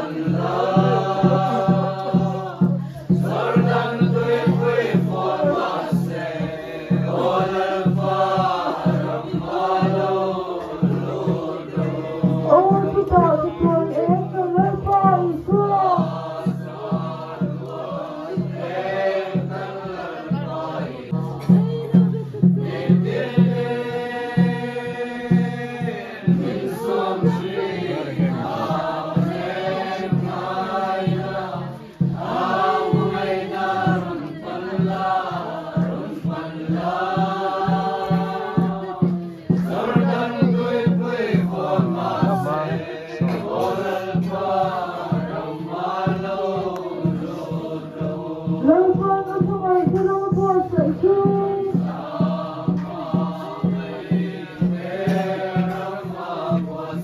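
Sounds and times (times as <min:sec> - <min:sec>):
group singing a slow hymn: 0:00.0 - 0:57.0
steady low beat: 0:00.0 - 0:57.0.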